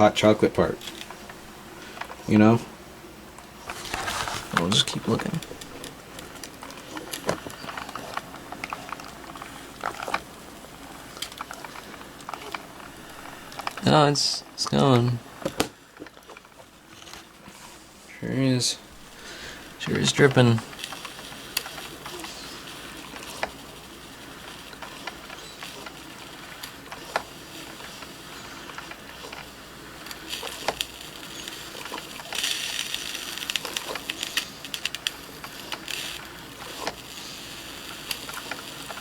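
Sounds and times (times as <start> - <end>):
coffee maker hissing: 0.0 - 39.0.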